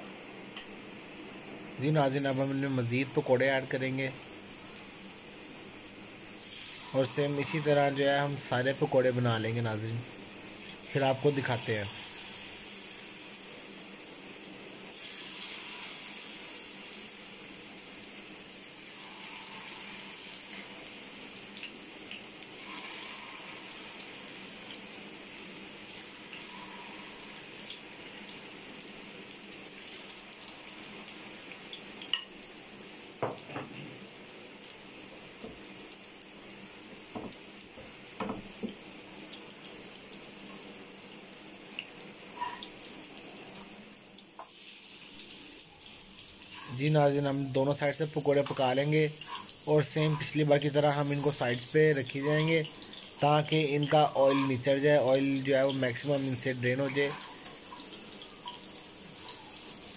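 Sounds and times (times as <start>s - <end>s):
batter sizzling in oil: 0.0s - 59.9s.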